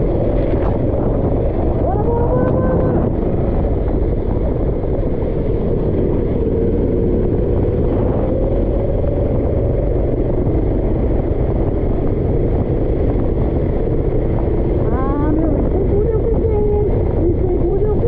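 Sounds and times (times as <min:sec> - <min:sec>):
dense low rumble: 0:00.0 - 0:18.0
go-kart engine running: 0:00.0 - 0:18.0.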